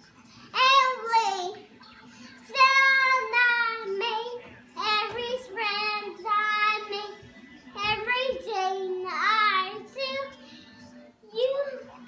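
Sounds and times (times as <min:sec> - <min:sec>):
girl singing in a high voice: 0:00.5 - 0:01.6, 0:02.4 - 0:10.6, 0:11.2 - 0:11.9.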